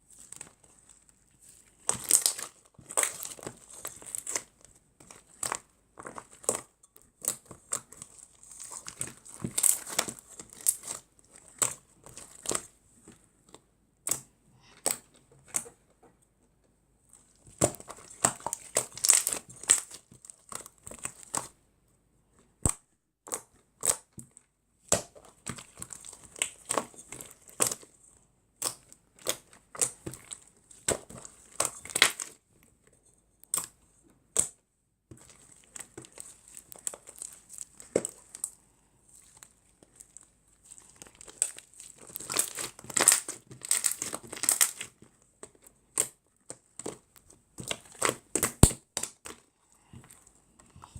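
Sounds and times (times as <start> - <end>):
sticky slime crackles and clicks: 0.2 - 12.8, 13.4 - 15.8, 17.1 - 21.6, 22.5 - 28.0, 28.6 - 49.5.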